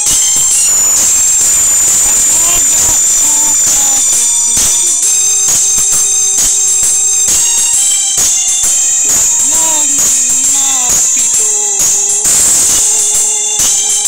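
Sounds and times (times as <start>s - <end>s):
instrumental backing music: 0.0s - 14.0s
tambourine jingle: 0.0s - 14.0s.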